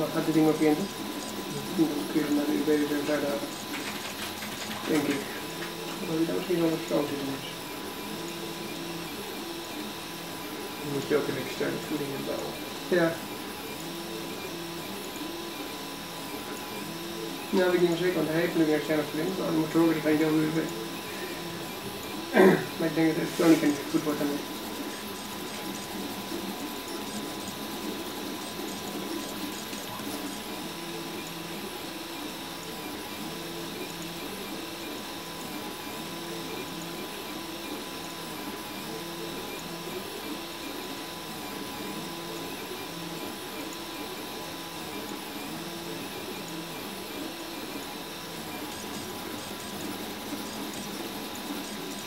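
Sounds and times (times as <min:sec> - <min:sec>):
stepper motors whining: 0:00.0 - 0:35.4, 0:45.5 - 0:52.0.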